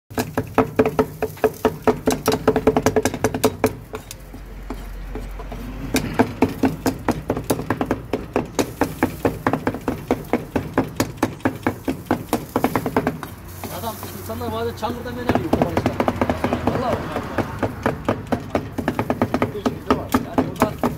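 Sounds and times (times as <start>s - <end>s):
cleaver chopping on board: 0.1s - 4.8s, 5.4s - 13.8s, 15.2s - 20.9s.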